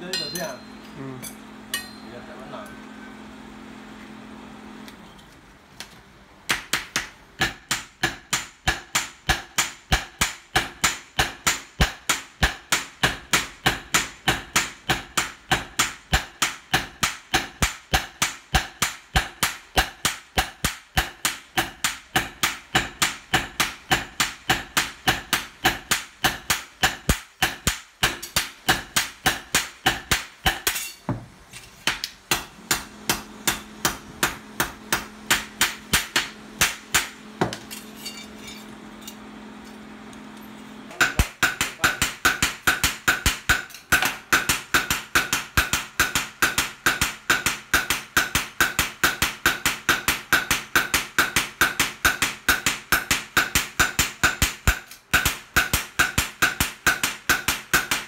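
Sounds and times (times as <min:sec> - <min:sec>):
hammer striking hot metal on anvil: 0:00.0 - 0:02.8, 0:06.5 - 0:31.1, 0:31.8 - 0:38.6, 0:41.0 - 0:58.0.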